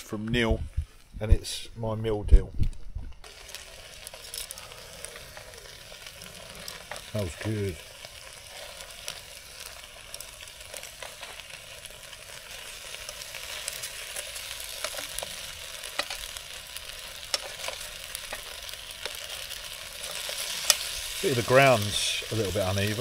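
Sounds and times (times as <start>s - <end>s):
chicken sizzling in a pan: 3.2s - 23.0s.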